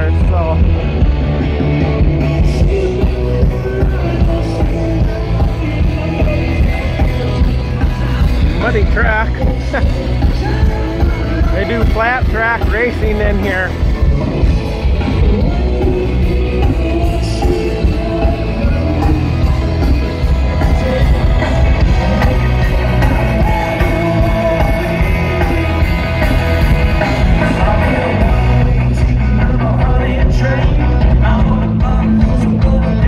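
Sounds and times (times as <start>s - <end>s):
live rock band: 0.0s - 33.0s
person singing: 1.5s - 13.0s, 13.8s - 33.0s.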